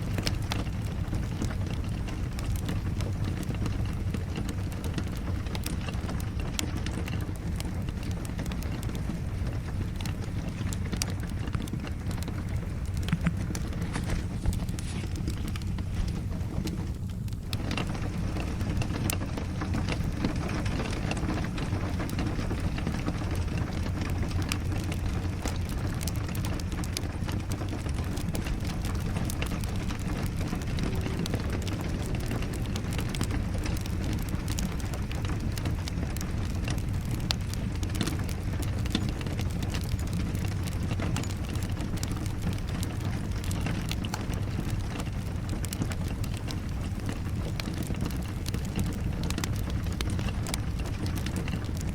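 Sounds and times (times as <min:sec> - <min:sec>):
steady rain: 0:00.0 - 0:51.9
wood fire crackling: 0:00.0 - 0:51.9.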